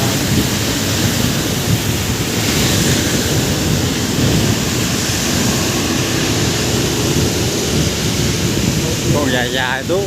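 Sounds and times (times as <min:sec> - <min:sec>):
heavy rain: 0:00.0 - 0:10.0
rushing floodwater: 0:00.0 - 0:10.0.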